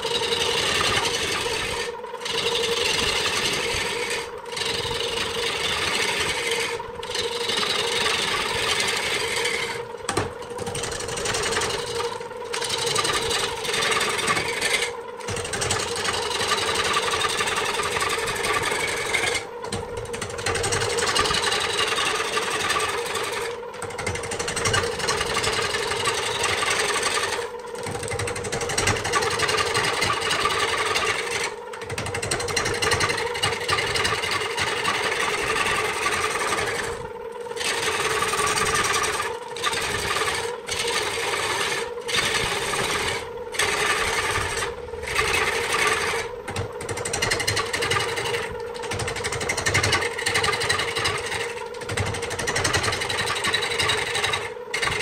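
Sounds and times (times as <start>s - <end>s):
turning tool scraping wood: 0.0s - 55.0s
wood lathe humming: 0.0s - 55.0s.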